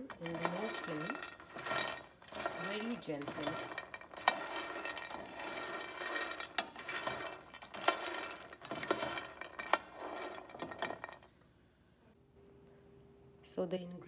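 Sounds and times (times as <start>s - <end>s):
dry nuts rattling in a frying pan: 0.0s - 11.3s.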